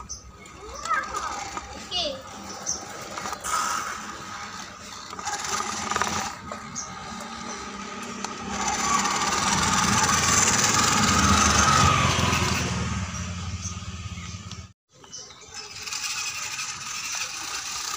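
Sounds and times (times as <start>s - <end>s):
small electric motor whirring: 0.0s - 13.5s, 15.4s - 17.9s
motor scooter engine: 0.0s - 17.9s.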